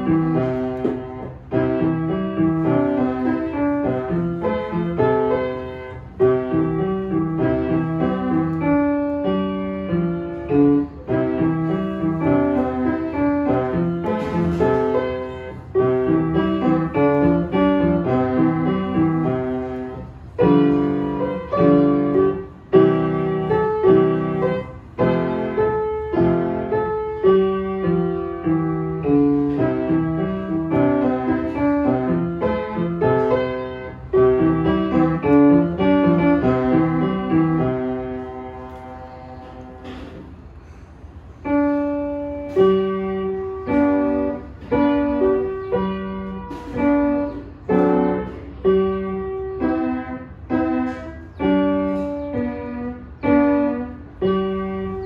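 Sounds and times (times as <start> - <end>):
upright piano playing: 0.0 - 55.0.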